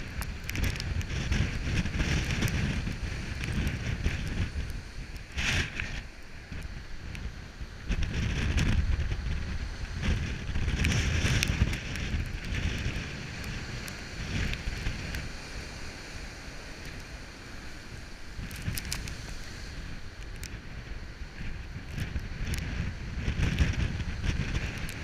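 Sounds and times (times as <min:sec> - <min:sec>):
surf crashing on rocky shore: 0:00.0 - 0:25.0
wind buffeting microphone: 0:00.0 - 0:25.0.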